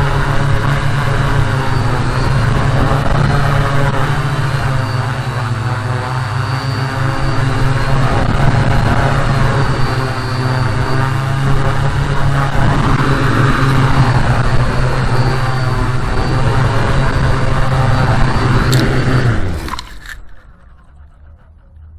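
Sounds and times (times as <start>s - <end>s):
drone motors buzzing: 0.0s - 21.9s.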